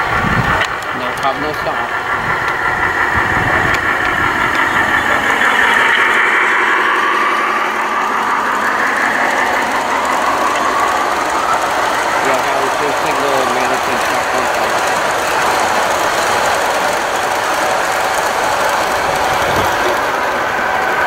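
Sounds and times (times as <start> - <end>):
model trains whirring on track: 0.0 - 21.0
train motor whine: 0.0 - 21.0.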